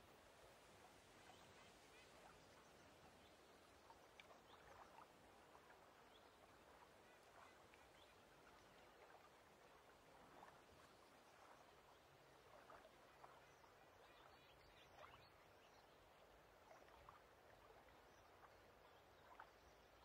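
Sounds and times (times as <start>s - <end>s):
soft wash of water: 0.0s - 20.0s
small ticks and splashes: 0.1s - 20.0s.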